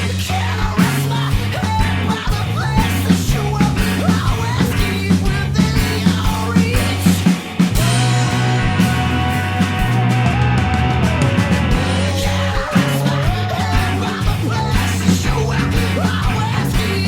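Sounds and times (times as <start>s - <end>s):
bass guitar notes: 0.0s - 17.0s
electric guitar: 0.0s - 17.0s
drum hits: 0.8s - 17.0s.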